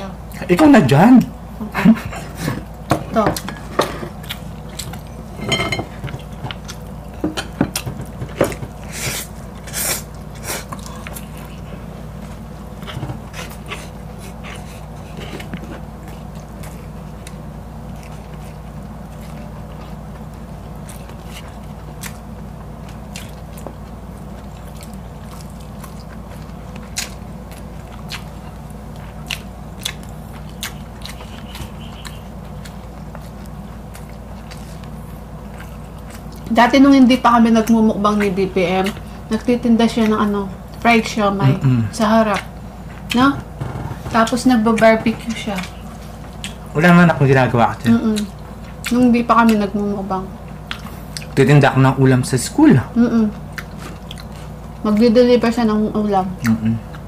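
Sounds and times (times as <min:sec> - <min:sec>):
steady low hum: 0:00.0 - 0:57.0
close-up biting and chewing: 0:03.4 - 0:05.3, 0:05.9 - 0:36.6, 0:37.6 - 0:40.9, 0:41.5 - 0:51.4, 0:53.3 - 0:55.1.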